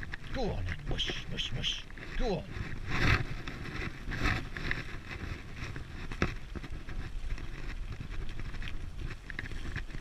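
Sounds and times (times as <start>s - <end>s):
scooter tyre rumble: 0.0s - 10.0s
wind noise on microphone: 0.0s - 10.0s.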